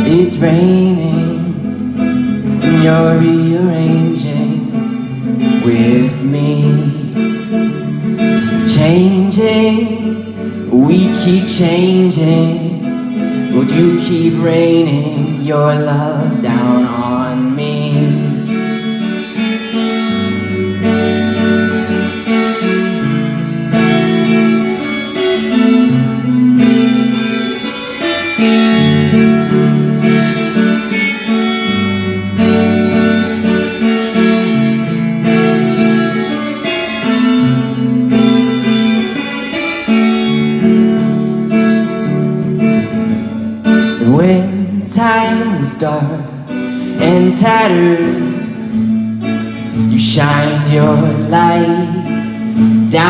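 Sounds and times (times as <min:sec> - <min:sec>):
guitar chords strummed and picked: 0:00.0 - 0:53.0.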